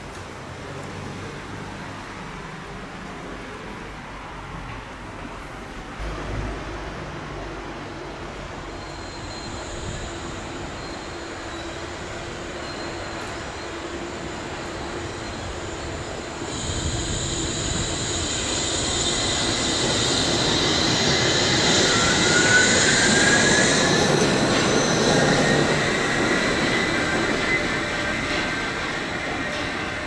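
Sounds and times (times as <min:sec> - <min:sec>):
steel wheels on overhead rail: 0:00.1 - 0:30.0.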